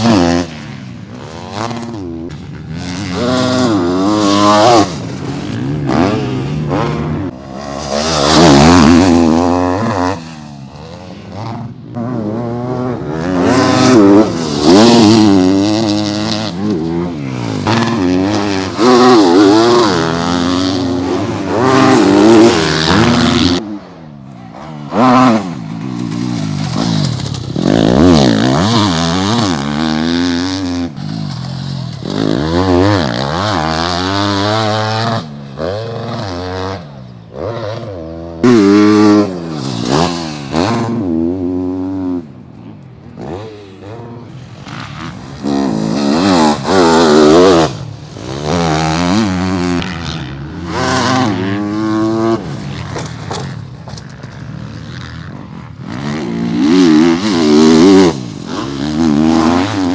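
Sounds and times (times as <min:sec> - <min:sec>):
motocross bike revving: 0:00.0 - 0:59.9.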